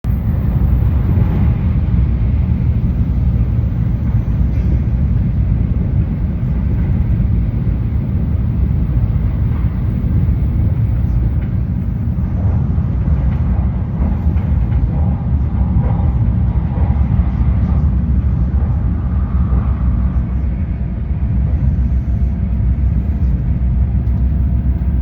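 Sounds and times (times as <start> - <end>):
train rumbling in motion: 0.0 - 25.0.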